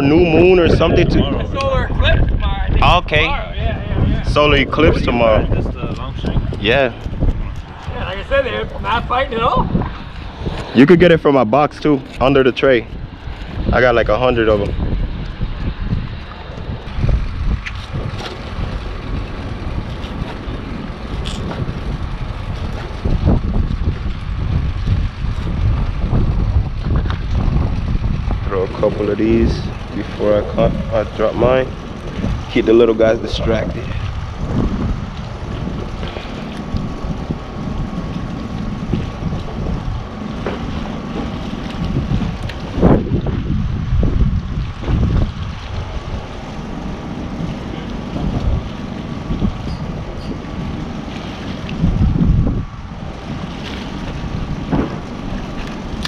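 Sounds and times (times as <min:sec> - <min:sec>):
sea washing against pier: 0:00.0 - 0:56.0
wind buffeting microphone: 0:00.0 - 0:56.0.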